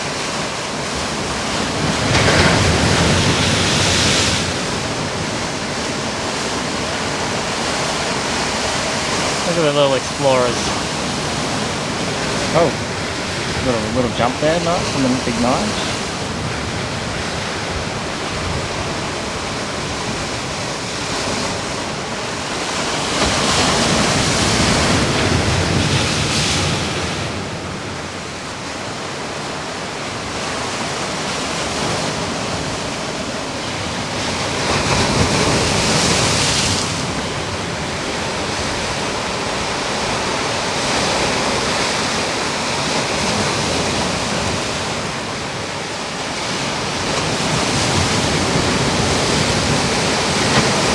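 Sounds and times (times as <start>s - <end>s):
ocean surf breaking: 0.0s - 50.9s.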